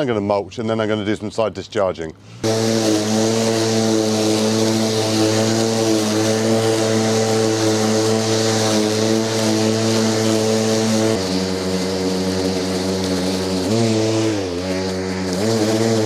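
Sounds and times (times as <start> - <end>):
lawn mower motor hum: 2.4 - 16.0.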